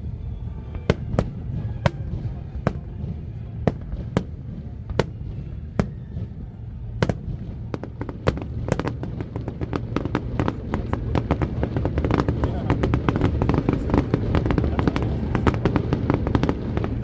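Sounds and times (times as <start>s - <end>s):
low rumble: 0.0s - 17.0s
fireworks cracking and banging: 0.1s - 17.0s.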